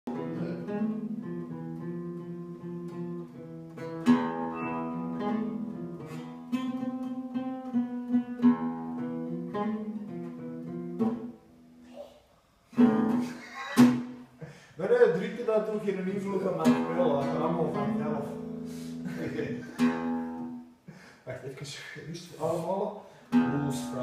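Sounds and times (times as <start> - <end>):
acoustic guitar: 0.1 - 21.4, 22.2 - 24.0.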